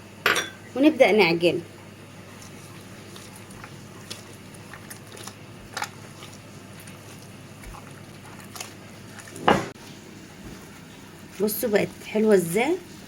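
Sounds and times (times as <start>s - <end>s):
hands kneading sticky dough: 1.8s - 13.0s.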